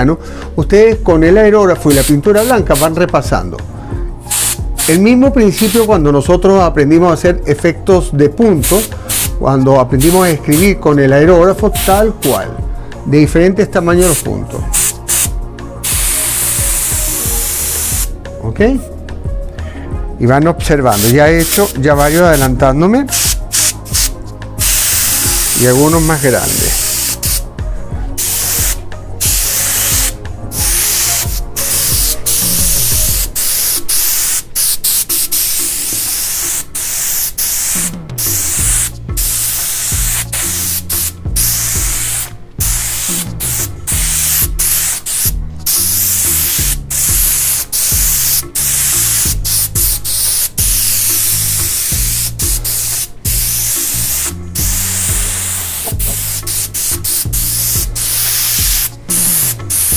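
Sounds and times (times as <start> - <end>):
background music with bass: 0.0 - 59.9
airbrush spraying bursts: 1.9 - 3.0, 4.2 - 6.0, 8.6 - 9.4, 10.0 - 10.8, 11.7 - 12.5, 13.9 - 18.2, 20.8 - 27.5, 28.1 - 59.9.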